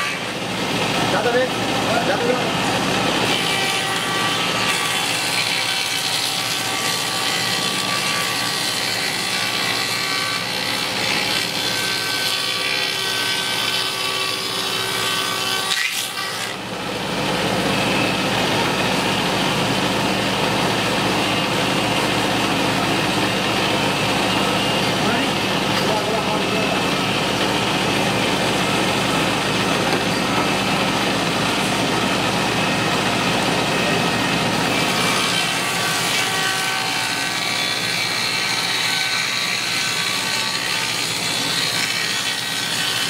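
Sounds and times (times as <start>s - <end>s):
cutting wood: 0.0s - 16.7s, 20.7s - 43.0s
wood shaper machine whine: 0.0s - 43.0s.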